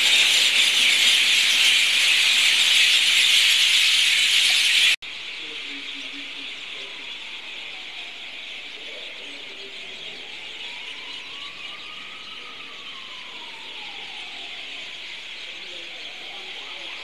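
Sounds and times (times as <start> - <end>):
flock of birds screeching: 0.0 - 17.0.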